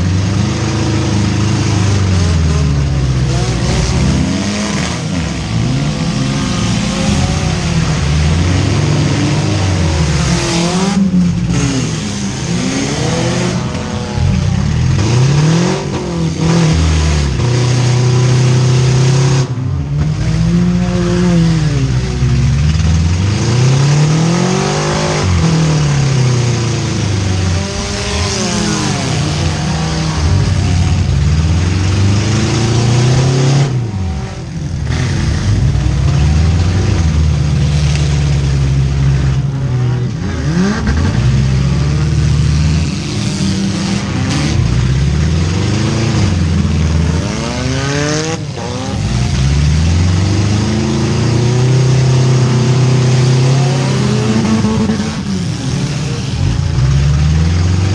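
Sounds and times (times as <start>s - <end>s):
car engines revving hard: 0.0s - 57.9s.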